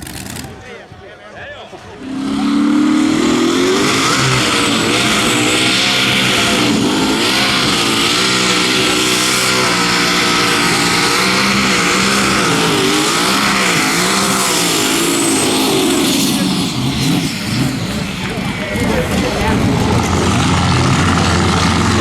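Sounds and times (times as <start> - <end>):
tractor engine revving high: 0.0 - 0.6, 1.9 - 22.0.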